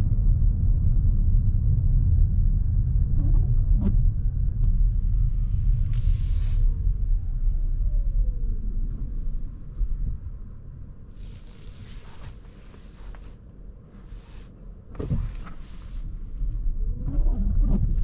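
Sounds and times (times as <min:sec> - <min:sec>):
car road and tyre noise: 0:00.0 - 0:18.0.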